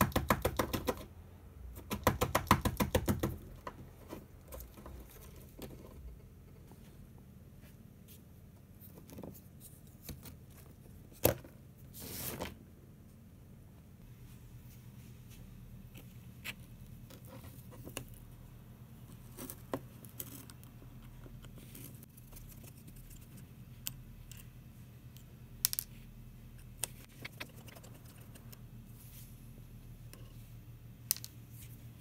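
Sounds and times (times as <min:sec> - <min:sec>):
steady low hum: 0:03.3 - 0:32.0.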